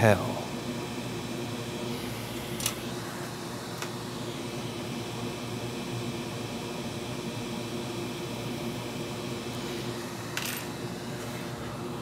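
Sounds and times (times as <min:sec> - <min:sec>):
bench equipment humming: 0:00.0 - 0:12.0.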